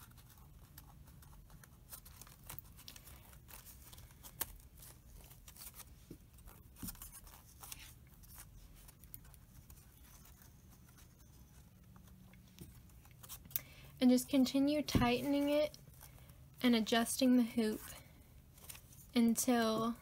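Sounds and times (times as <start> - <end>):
cloth rustling: 0.0 - 13.5, 14.3 - 20.0
low room hum: 0.0 - 20.0.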